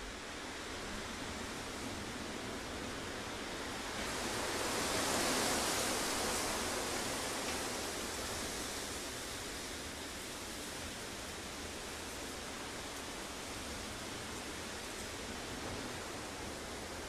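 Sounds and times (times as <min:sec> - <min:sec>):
wind rustling through trees: 0:00.0 - 0:17.0.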